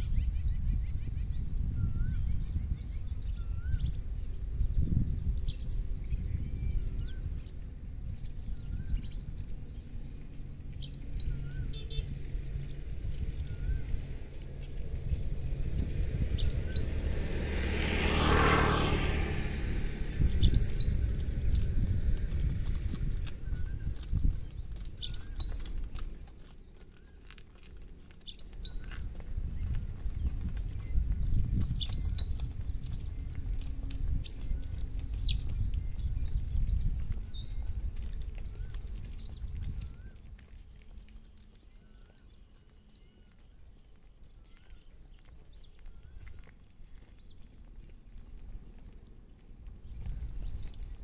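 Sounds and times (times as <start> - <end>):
small bird chirping: 0.0 - 14.0, 16.3 - 17.2, 20.3 - 21.3, 23.4 - 27.3, 28.2 - 51.0
low rumble: 0.0 - 51.0.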